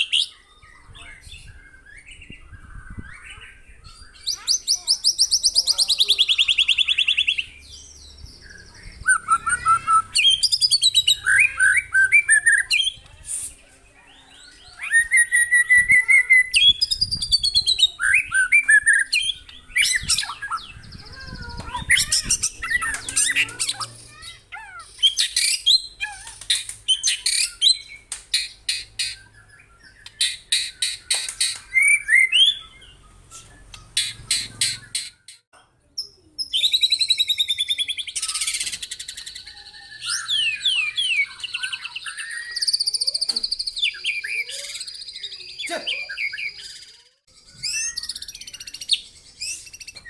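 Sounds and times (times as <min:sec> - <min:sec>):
bird singing: 0:00.0 - 0:13.0, 0:14.0 - 0:50.0.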